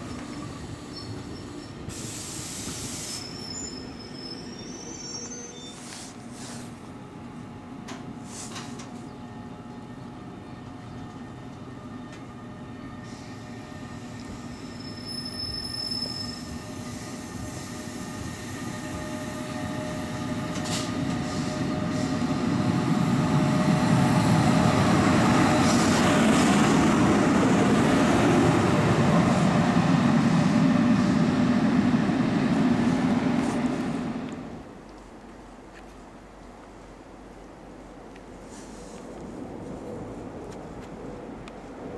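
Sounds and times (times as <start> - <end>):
train running past: 0.0 - 34.8.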